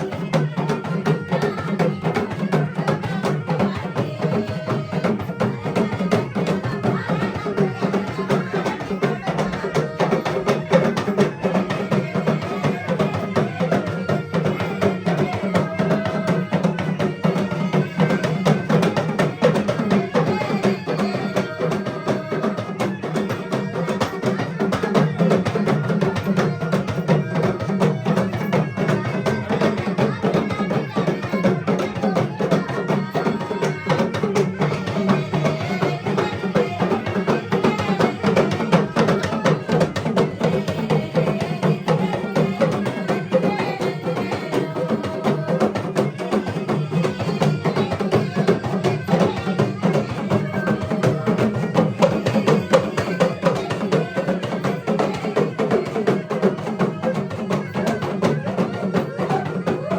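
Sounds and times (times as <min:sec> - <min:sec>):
folk music with fast drumming: 0:00.0 - 0:59.9.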